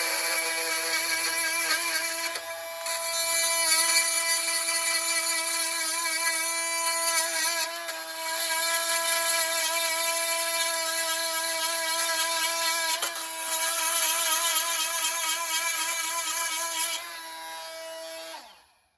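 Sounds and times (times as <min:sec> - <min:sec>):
oscillating multi-tool buzzing: 0:00.0 - 0:18.7.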